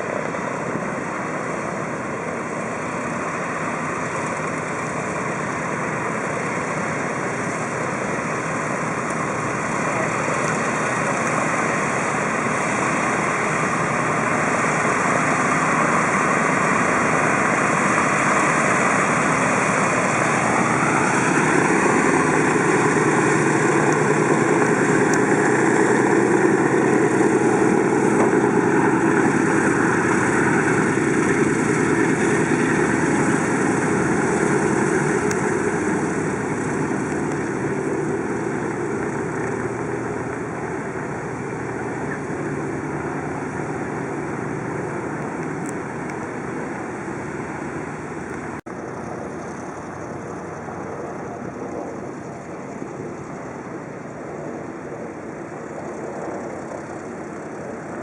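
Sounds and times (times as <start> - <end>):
piston aircraft engine and propeller: 0.0 - 58.0.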